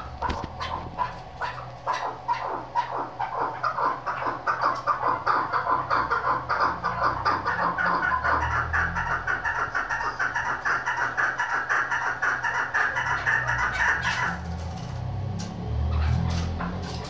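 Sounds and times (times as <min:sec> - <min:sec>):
partridge clucking calls: 0:00.0 - 0:17.0.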